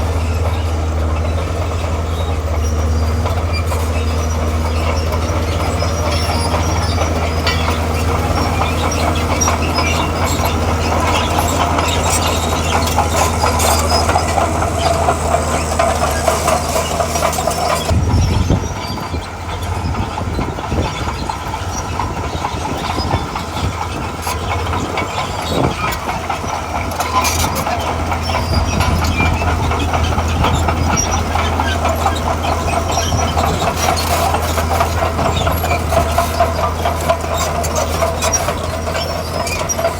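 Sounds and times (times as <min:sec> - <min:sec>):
diesel engine running: 0:00.0 - 0:39.9
steel tracks clanking and rattling: 0:00.0 - 0:39.9.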